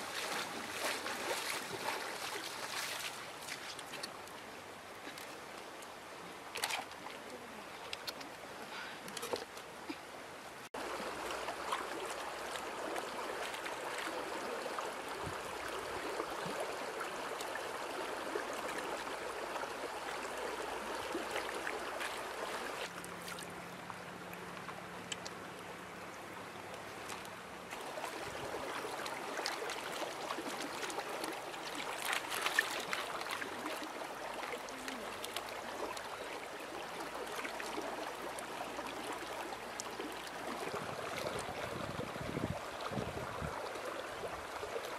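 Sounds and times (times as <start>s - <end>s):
stream running over stones: 0.0s - 44.9s.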